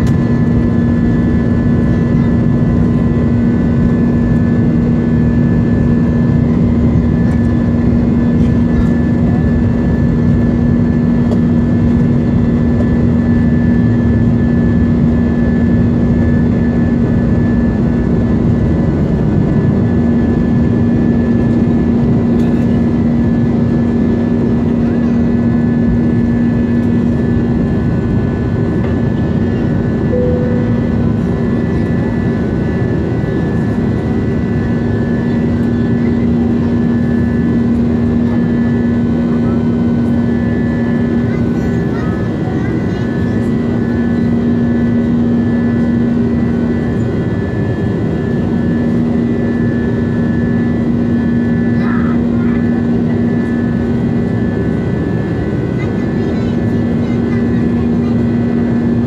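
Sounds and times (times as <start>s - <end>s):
jet engines roaring in cabin: 0.0s - 59.0s.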